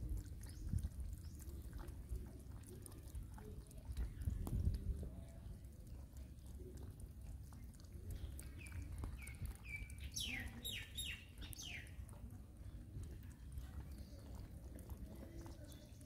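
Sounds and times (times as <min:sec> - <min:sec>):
cats chewing and lapping: 0:00.0 - 0:16.0.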